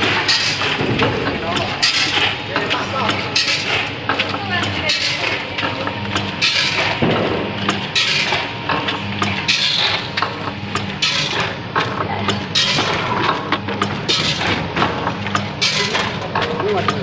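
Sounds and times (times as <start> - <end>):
low machine hum: 0.0 - 17.0
machine clicks and knocks: 0.0 - 17.0.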